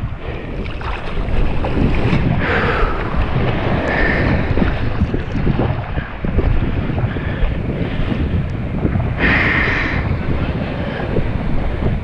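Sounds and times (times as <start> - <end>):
small waves washing: 0.0 - 12.0
wind buffeting microphone: 0.0 - 12.0.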